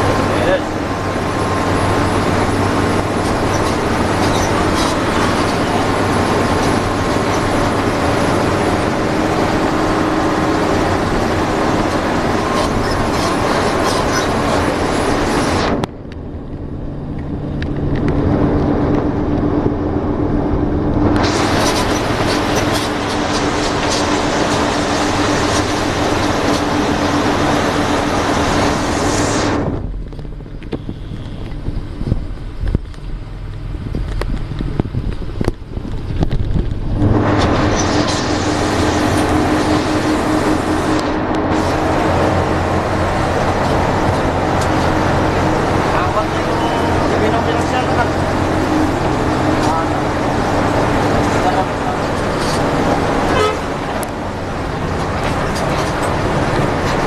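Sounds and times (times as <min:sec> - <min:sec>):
bus engine drone: 0:00.0 - 0:57.0
road and wind hiss: 0:00.0 - 0:57.0.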